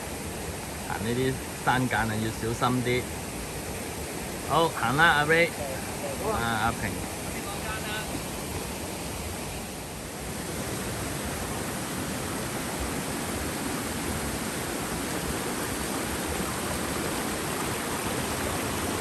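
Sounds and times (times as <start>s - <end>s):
mountain stream rushing over boulders: 0.0s - 19.0s.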